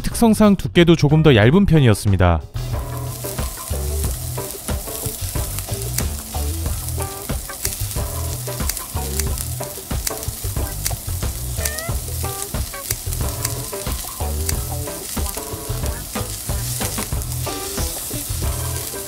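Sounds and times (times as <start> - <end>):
background music with bass line: 2.2 - 19.0
meat sizzling on a grill: 2.6 - 19.0.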